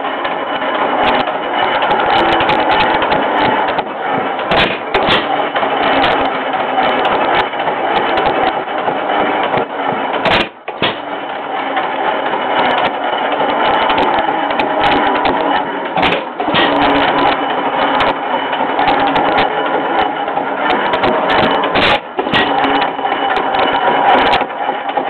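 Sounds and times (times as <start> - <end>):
engine clattering: 0.0 - 25.0
sharp engine knocks: 0.0 - 25.0.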